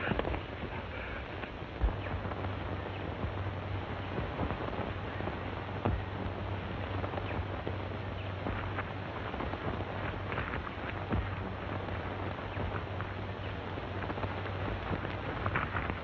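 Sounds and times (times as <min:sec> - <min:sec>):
crackles and clicks: 0:00.0 - 0:16.0
film soundtrack hiss: 0:00.0 - 0:16.0
low hum: 0:00.0 - 0:16.0.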